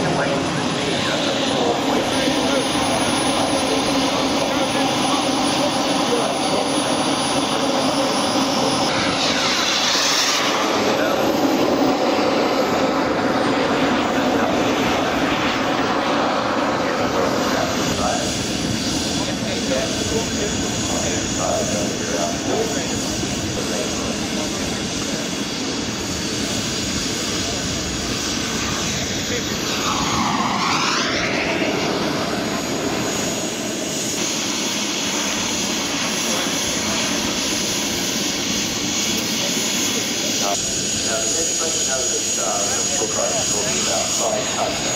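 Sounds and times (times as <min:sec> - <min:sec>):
model jet turbine engine: 0:00.0 - 0:44.9.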